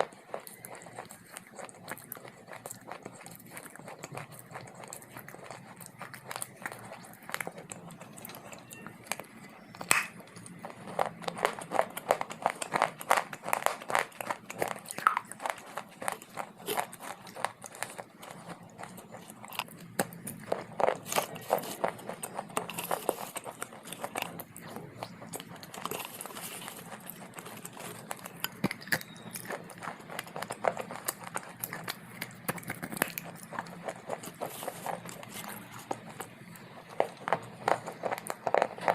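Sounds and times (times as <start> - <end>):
crisp chewing crunches: 0.0 - 38.9.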